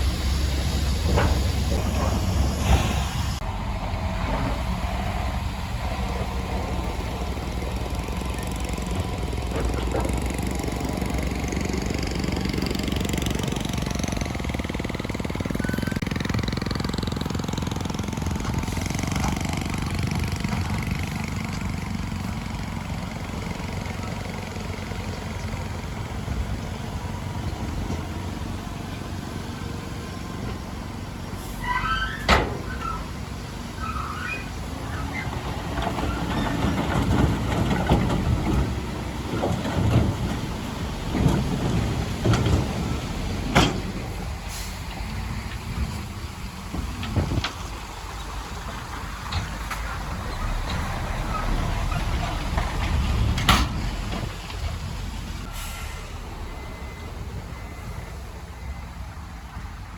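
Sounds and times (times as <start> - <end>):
diesel machinery engine rumbling: 0.0 - 59.9.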